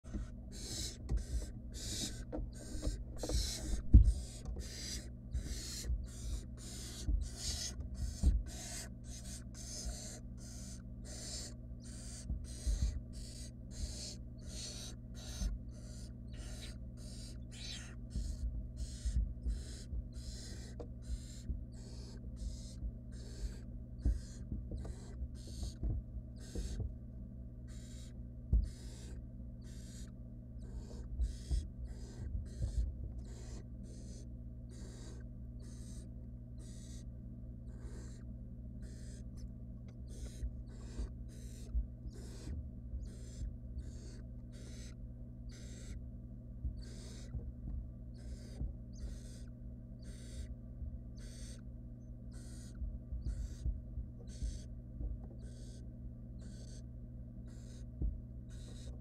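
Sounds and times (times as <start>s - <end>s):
steady low hum: 0.0s - 59.0s
owl nestlings rasping hisses: 0.1s - 25.8s, 27.7s - 37.0s, 37.7s - 39.3s, 40.0s - 46.0s, 46.8s - 47.3s, 48.2s - 50.5s, 51.2s - 51.6s, 52.3s - 53.6s, 54.3s - 54.7s, 55.4s - 55.8s, 56.4s - 56.8s, 57.5s - 57.9s, 58.5s - 59.0s.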